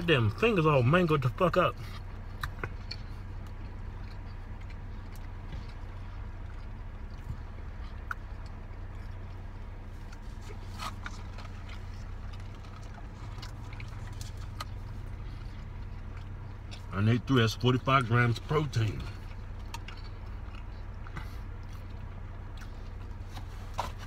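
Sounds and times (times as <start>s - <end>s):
car cabin hum: 0.0s - 24.0s
chewing and mouth clicks: 0.0s - 24.0s.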